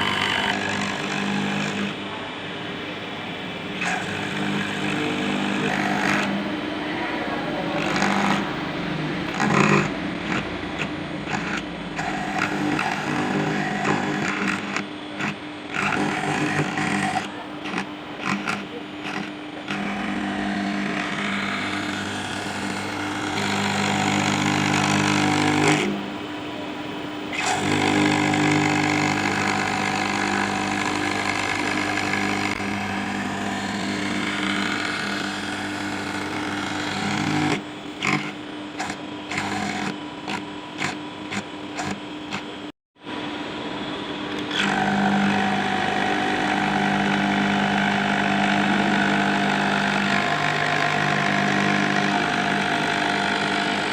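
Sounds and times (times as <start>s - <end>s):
milling machine cutting: 0.0s - 53.9s.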